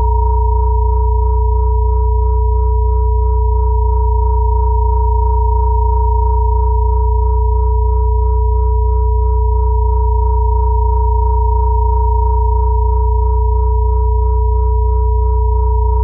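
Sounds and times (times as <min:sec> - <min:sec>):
high sine tone: 0:00.0 - 0:16.0
low hum: 0:00.0 - 0:16.0
middle sine tone: 0:00.0 - 0:16.0.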